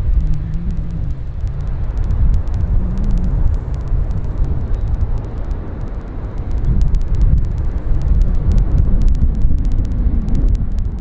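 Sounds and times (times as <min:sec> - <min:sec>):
distant jet engines rumbling: 0:00.0 - 0:10.9.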